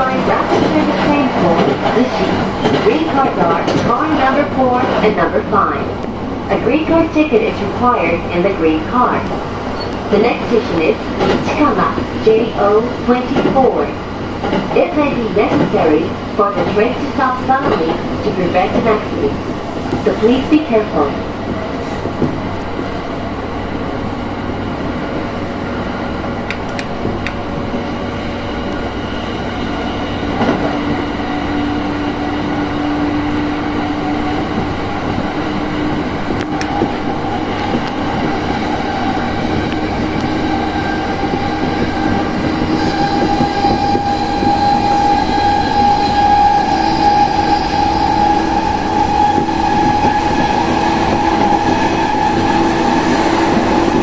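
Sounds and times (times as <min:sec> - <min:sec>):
train wheels rumbling on rail: 0:00.0 - 0:54.0
train whine: 0:00.0 - 0:54.0.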